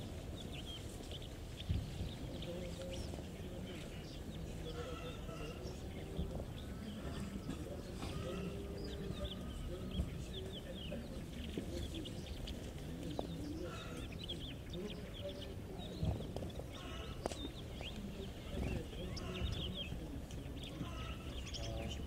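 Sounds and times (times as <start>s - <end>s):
high chirps chatter: 0.0s - 22.0s
chickens clucking softly: 0.6s - 22.0s.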